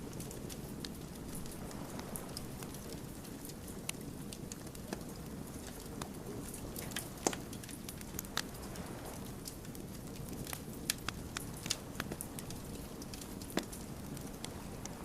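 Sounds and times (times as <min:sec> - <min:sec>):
low rush of fire: 0:00.0 - 0:15.0
wood fire crackling and popping: 0:00.0 - 0:15.0.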